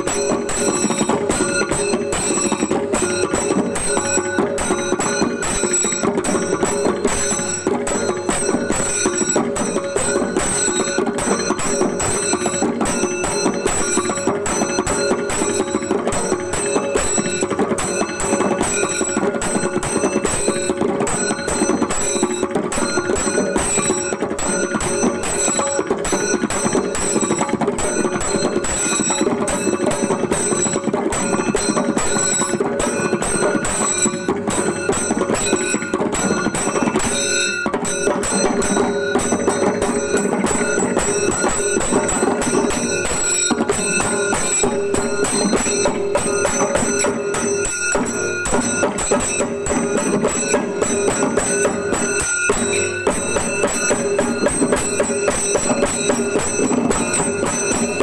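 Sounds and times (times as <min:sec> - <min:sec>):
drums beaten in fast rhythm: 0:00.0 - 0:58.0
metallic ringing: 0:00.0 - 0:58.0.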